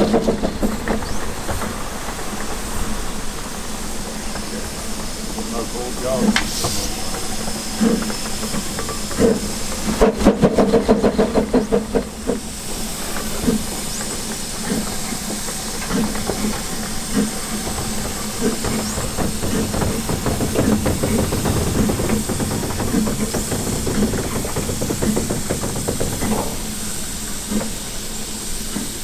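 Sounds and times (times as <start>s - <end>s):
steam hissing: 0.0s - 29.0s
steam locomotive chuffing: 0.0s - 29.0s.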